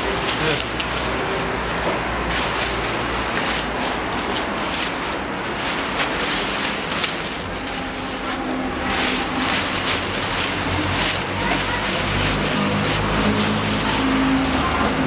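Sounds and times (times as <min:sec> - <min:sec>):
fabric cover rustling and crackling: 0:00.0 - 0:15.0.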